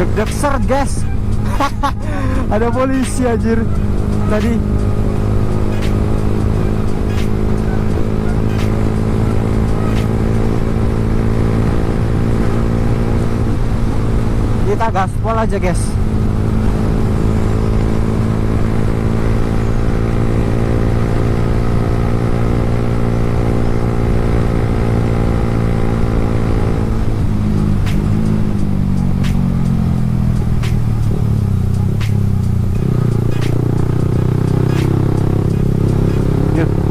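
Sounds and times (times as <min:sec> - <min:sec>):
motorcycle engine at high revs: 0:00.0 - 0:36.9.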